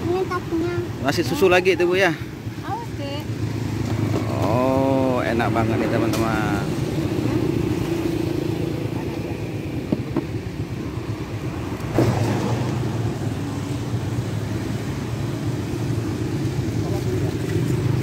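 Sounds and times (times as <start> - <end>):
road traffic engine noise: 0.0 - 18.0.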